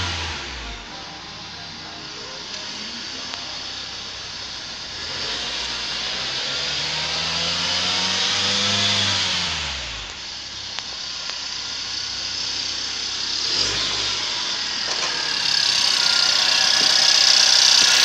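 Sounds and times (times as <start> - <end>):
van engine revving and idling: 0.0 - 18.0.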